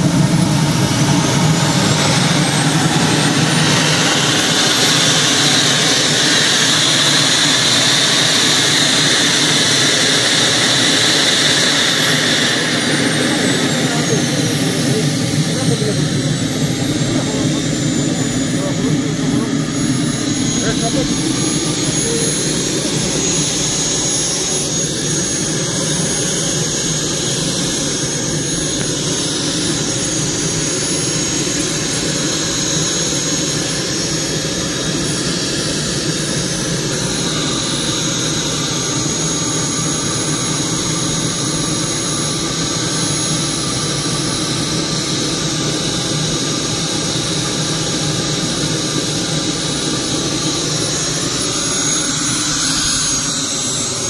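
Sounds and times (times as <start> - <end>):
small turbine engine whining: 0.0 - 54.0.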